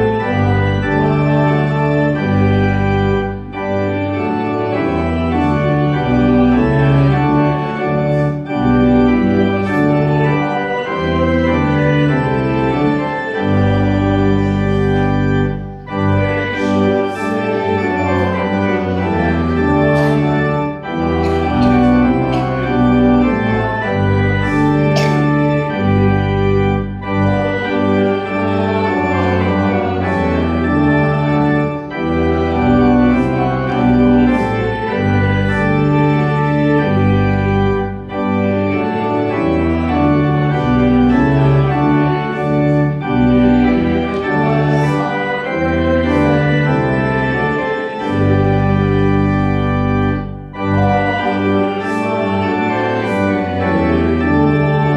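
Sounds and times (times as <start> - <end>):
church organ chords: 0.0 - 54.9.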